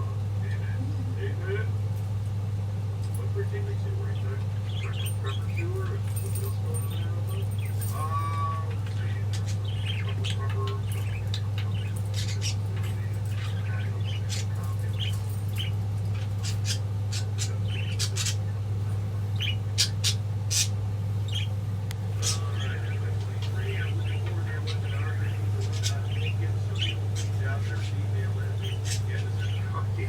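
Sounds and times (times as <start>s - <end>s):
steady low hum: 0.0s - 30.0s
budgerigars chirping and squawking: 3.0s - 30.0s.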